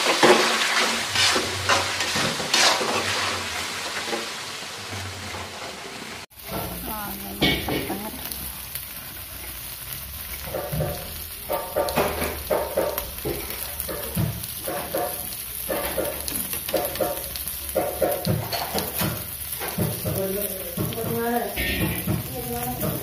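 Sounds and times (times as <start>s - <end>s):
chicken sizzling on grill pan: 0.0s - 23.0s.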